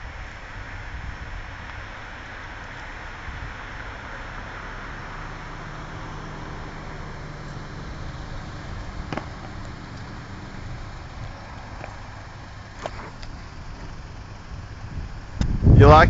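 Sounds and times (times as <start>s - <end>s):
car engine idling: 0.0s - 16.0s
road traffic: 0.0s - 16.0s.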